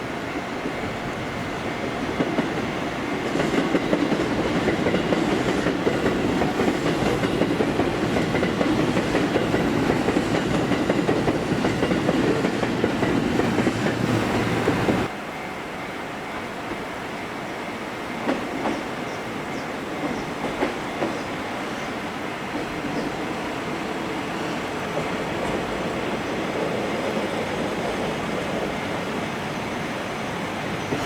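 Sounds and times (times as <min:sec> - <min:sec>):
train wheels clattering over rails: 0:01.8 - 0:15.1, 0:18.2 - 0:31.0.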